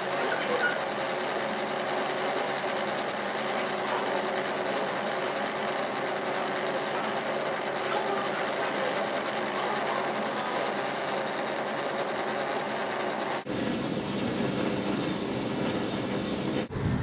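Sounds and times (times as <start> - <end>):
drawing machines running: 0.0 - 16.9.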